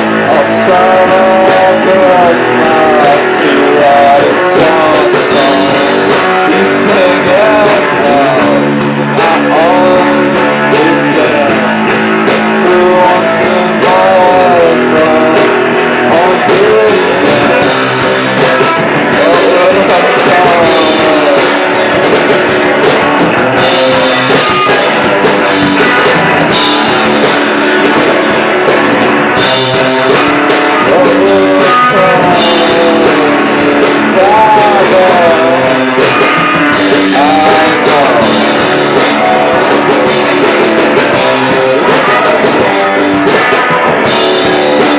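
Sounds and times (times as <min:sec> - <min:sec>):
drum kit: 0:00.0 - 0:44.9
electric guitars: 0:00.0 - 0:44.9.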